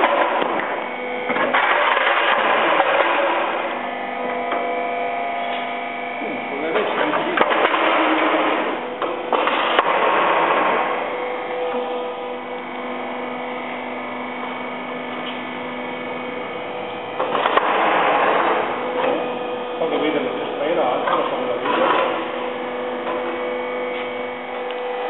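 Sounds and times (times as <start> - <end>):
hydraulic stone splitter humming: 0.0 - 25.0.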